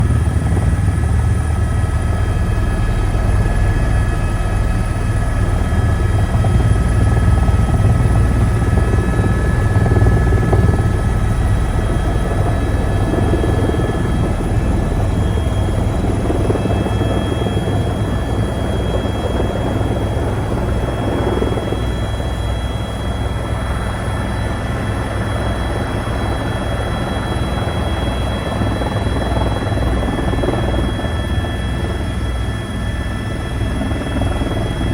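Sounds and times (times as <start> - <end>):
helicopter rotor drone: 0.0 - 34.9.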